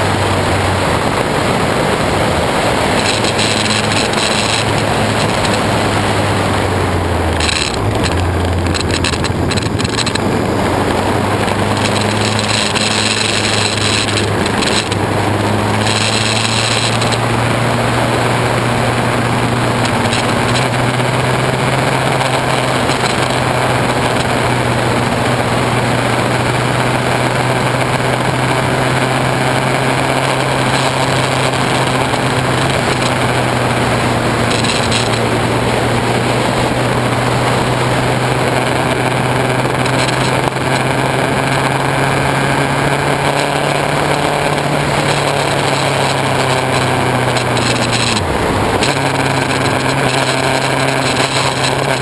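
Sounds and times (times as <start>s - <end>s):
loud rushing noise: 0.0s - 52.0s
motorcycle engine running: 0.0s - 52.0s.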